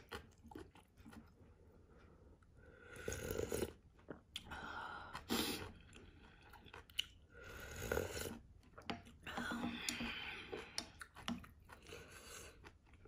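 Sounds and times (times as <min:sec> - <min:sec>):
wet chewing: 0:00.0 - 0:02.5, 0:03.1 - 0:13.0.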